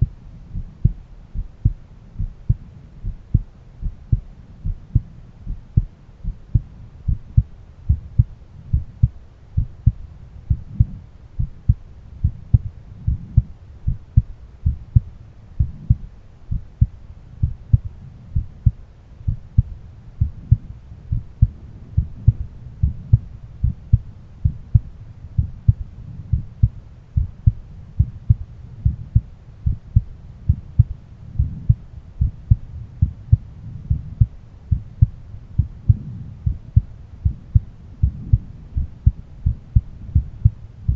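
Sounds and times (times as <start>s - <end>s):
heartbeat through stethoscope: 0.0s - 40.9s.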